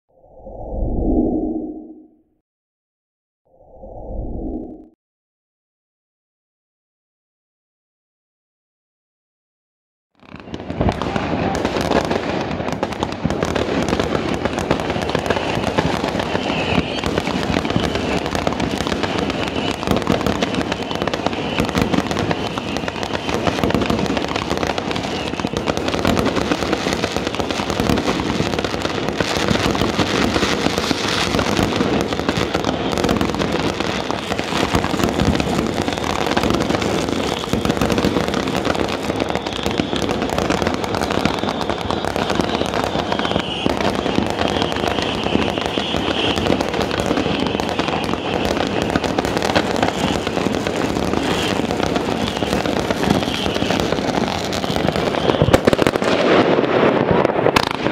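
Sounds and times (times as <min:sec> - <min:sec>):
fireworks crackling and banging: 0:10.2 - 0:57.9.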